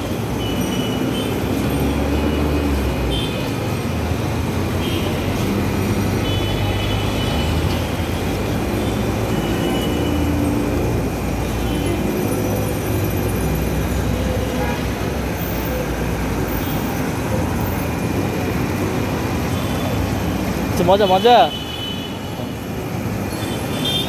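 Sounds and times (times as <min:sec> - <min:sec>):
traffic engines running: 0:00.0 - 0:24.0.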